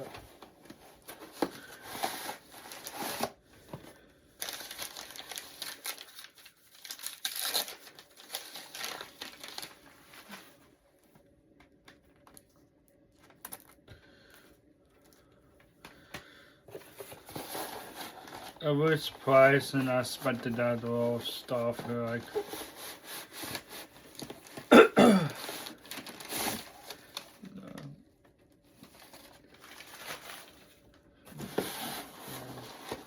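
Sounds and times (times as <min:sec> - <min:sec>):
packaging crinkling and rustling: 0:00.0 - 0:13.8, 0:16.7 - 0:24.7, 0:25.3 - 0:33.0.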